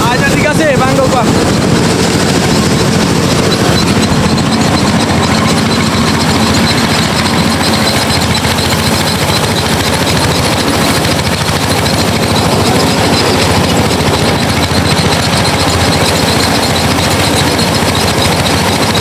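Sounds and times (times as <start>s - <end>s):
threshing machine engine chugging: 0.0s - 19.0s.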